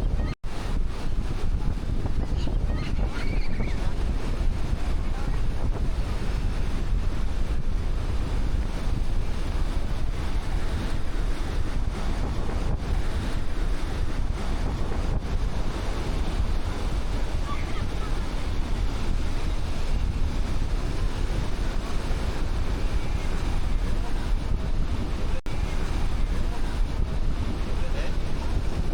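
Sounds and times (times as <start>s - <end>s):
surf breaking on beach: 0.0s - 28.9s
wind buffeting microphone: 0.0s - 28.9s.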